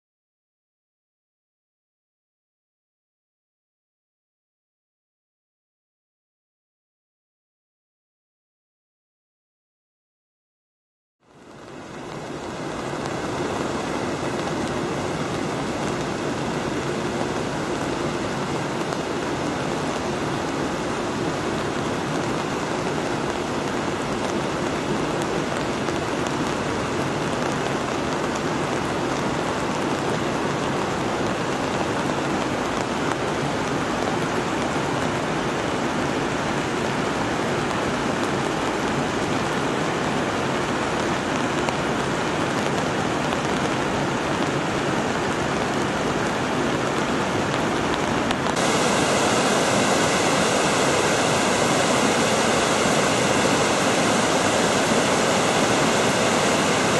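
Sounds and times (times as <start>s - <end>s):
steady rain: 11.2s - 56.9s
mountain stream rushing: 11.3s - 56.9s.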